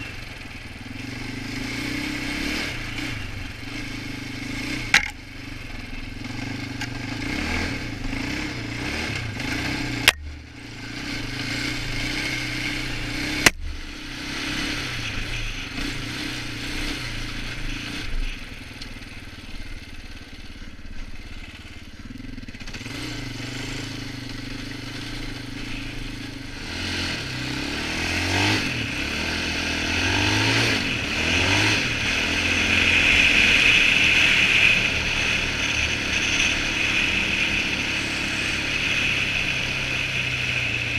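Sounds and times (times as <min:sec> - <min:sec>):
quad engine revving: 0:00.0 - 0:19.0, 0:21.2 - 0:40.9.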